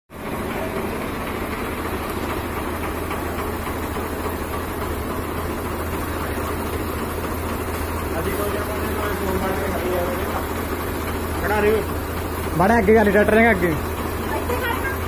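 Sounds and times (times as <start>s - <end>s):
diesel tractor engines humming: 0.2s - 15.0s.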